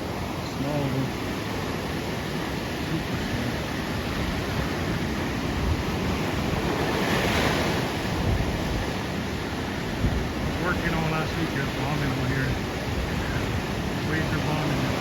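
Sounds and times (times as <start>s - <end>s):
ocean waves washing onto beach: 0.0s - 15.0s
wind on microphone: 1.1s - 15.0s.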